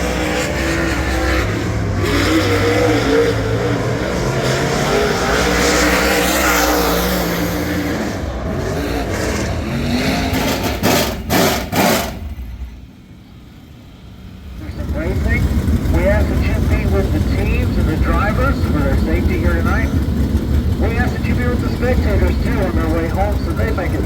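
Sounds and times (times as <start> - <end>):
race car engine: 0.0 - 24.0.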